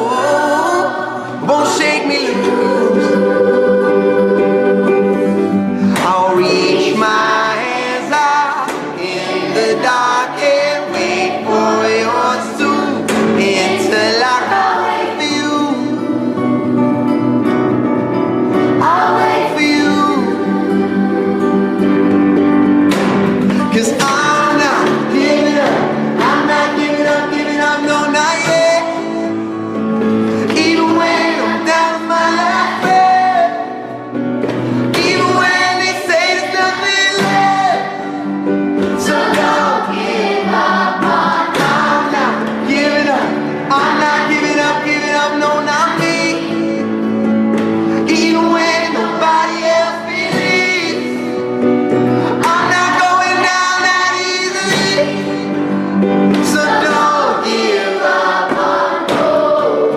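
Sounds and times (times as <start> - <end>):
song with sung vocal: 0.0 - 59.9.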